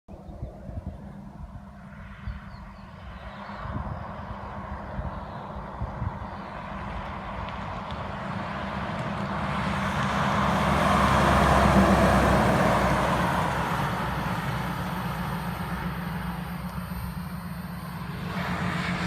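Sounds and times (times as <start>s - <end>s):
diesel truck passing: 1.1s - 19.0s.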